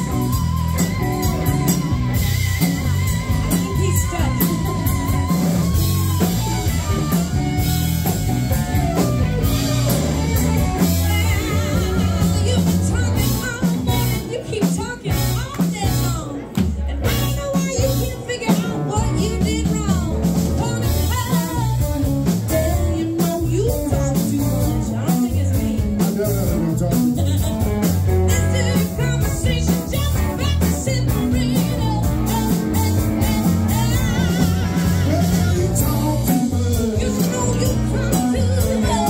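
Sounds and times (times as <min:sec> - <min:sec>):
live band with electric guitars: 0:00.0 - 0:39.0.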